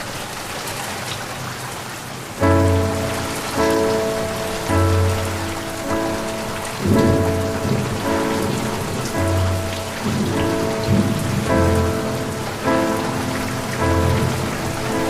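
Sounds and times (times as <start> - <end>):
rain hiss: 0.0 - 15.0
held music chord: 2.4 - 15.0
thunder rolling: 2.5 - 15.0.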